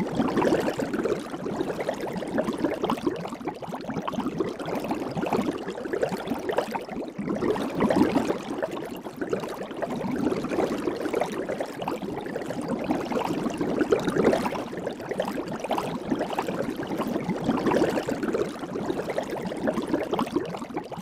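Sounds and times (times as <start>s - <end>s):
soapy water bubbling: 0.0s - 21.0s.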